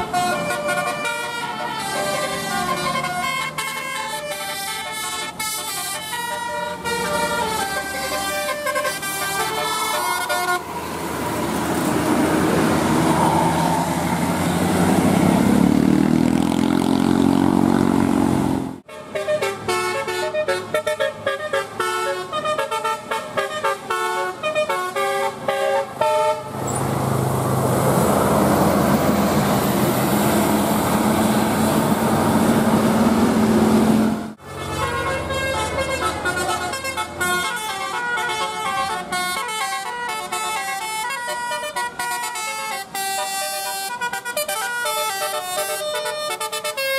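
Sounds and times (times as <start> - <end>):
multi-tone bus air horns: 0.0 - 11.6, 18.2 - 26.7, 29.4 - 46.9
bus driving by: 0.0 - 46.9.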